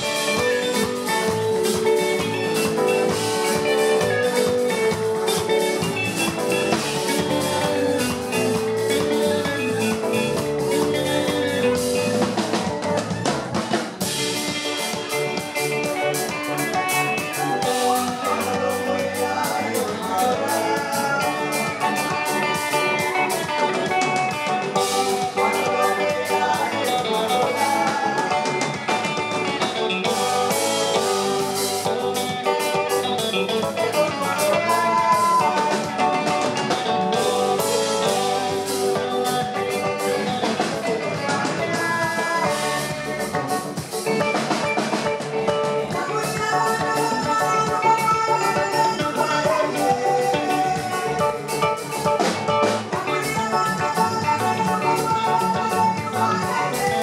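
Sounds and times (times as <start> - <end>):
drum kit: 0.0 - 57.0
electric bass: 0.0 - 57.0
electric guitar: 0.0 - 57.0.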